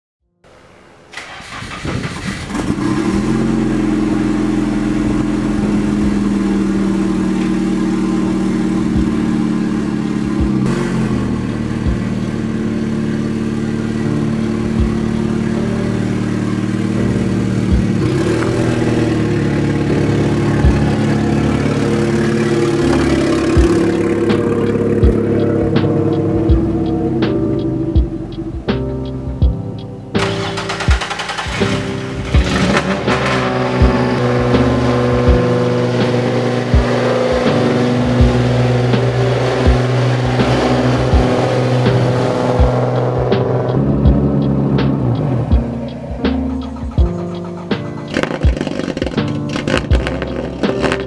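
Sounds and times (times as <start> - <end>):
car engine starting and running: 0.4 - 51.0.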